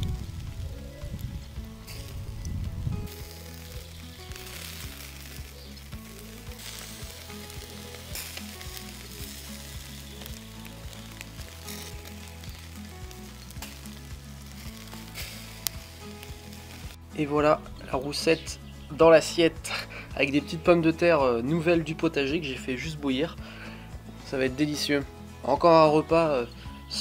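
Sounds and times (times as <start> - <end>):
background music with bass: 0.0 - 27.0
fish sizzling on grill: 0.0 - 27.0.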